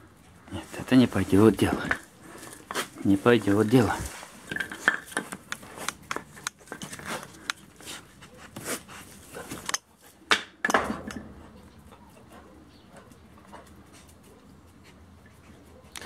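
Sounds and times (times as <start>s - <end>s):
puppy claws on concrete: 1.4s - 16.0s.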